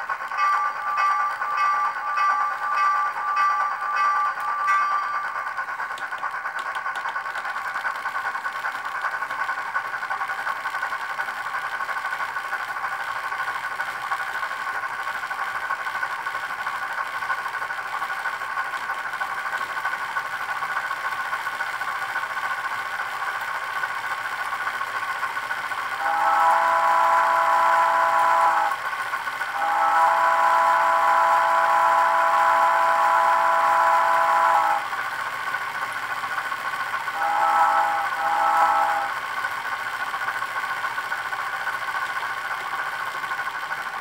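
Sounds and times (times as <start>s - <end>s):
model steam locomotive running sound: 0.0s - 44.0s
model train mechanism running: 0.0s - 44.0s.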